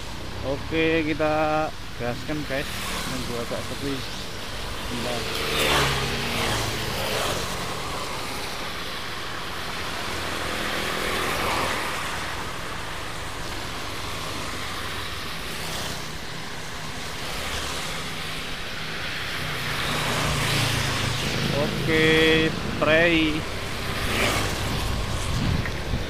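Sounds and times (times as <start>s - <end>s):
motorcycles passing: 0.0s - 26.0s
tyres hissing on wet road: 0.0s - 26.0s.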